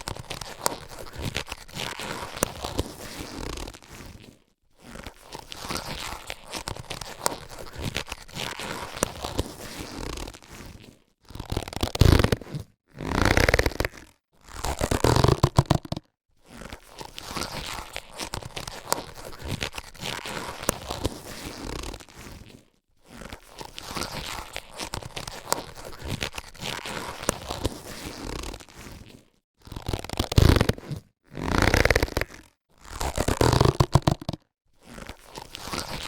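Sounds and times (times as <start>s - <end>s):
latex gloves rubbing and stretching: 0.0s - 36.0s.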